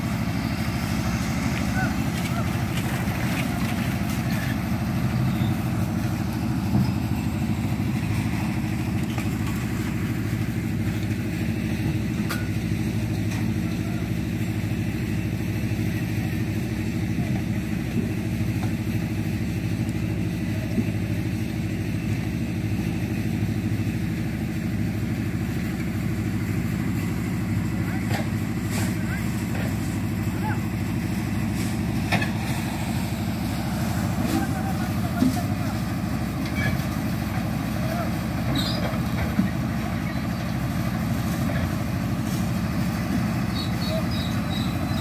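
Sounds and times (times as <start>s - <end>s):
engine droning steadily: 0.0s - 45.0s.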